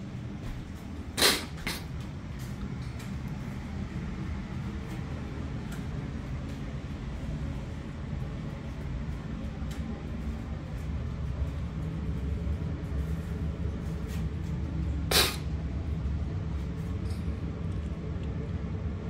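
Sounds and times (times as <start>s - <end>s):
low indoor rumble: 0.0s - 19.0s.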